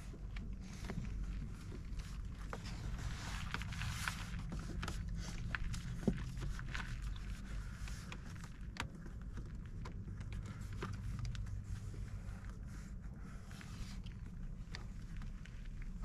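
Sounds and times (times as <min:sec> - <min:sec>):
soft clicks and rustles: 0:00.0 - 0:16.0
steady low hum: 0:00.0 - 0:16.0.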